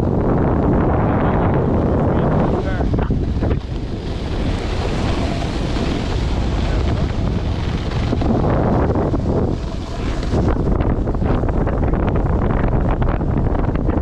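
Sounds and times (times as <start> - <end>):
snowboard sliding over snow: 0.0 - 14.0
strong wind on microphone: 0.0 - 14.0.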